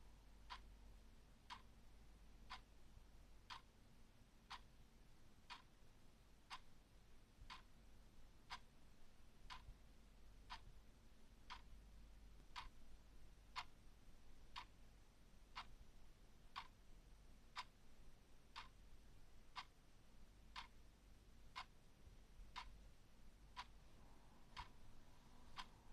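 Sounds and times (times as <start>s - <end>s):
clock ticking: 0.2s - 25.9s.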